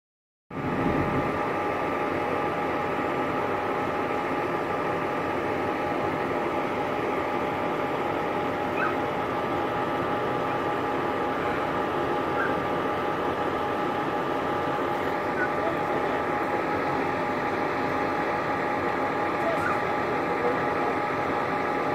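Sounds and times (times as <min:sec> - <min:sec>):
mechanical drone with hum: 0:00.5 - 0:21.9.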